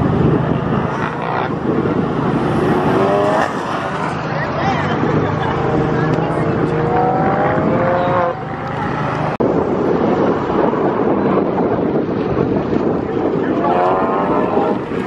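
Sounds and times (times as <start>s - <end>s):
car engine accelerating hard: 0.0s - 15.0s
wind noise on microphone: 0.0s - 15.0s.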